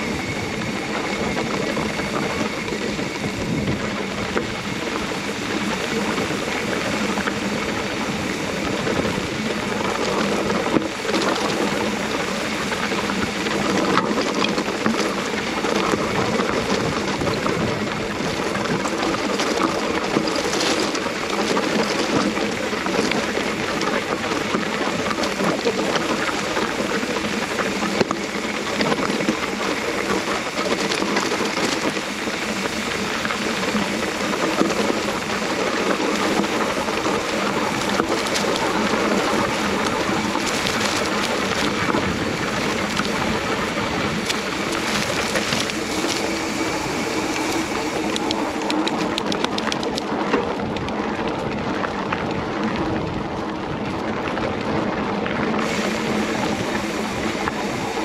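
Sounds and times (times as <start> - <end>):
bike tyres crunching on stones: 0.0 - 58.0.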